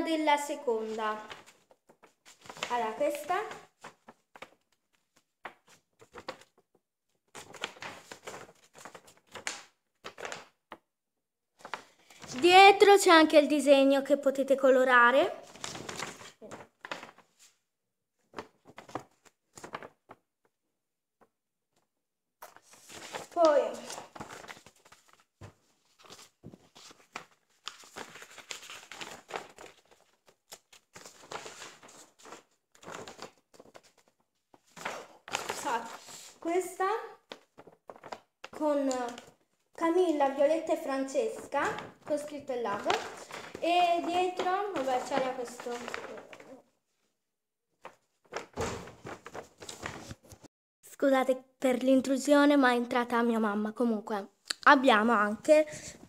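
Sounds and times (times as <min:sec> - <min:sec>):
paper poster rustling: 0:00.0 - 0:10.8, 0:11.6 - 0:17.6, 0:18.2 - 0:20.3, 0:22.4 - 0:46.8, 0:47.8 - 0:50.5, 0:54.7 - 0:56.0.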